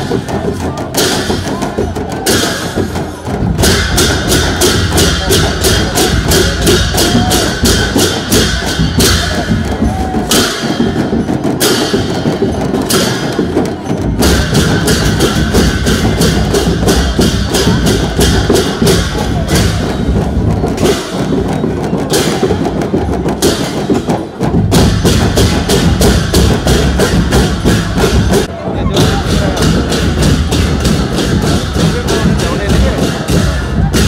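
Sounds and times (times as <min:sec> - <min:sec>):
barrel drums beating: 0:00.0 - 0:34.0
festival crowd din: 0:00.0 - 0:34.0.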